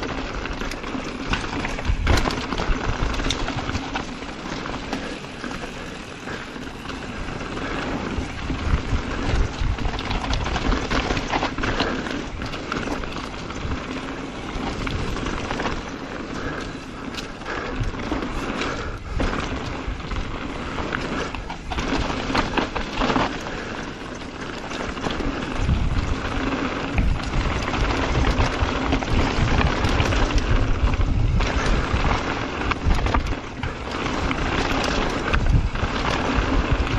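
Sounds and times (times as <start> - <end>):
bike knocking and rattling: 0.0 - 36.9
bike tyres crunching on gravel: 0.0 - 36.9
wind rumbling on microphone: 0.0 - 36.9.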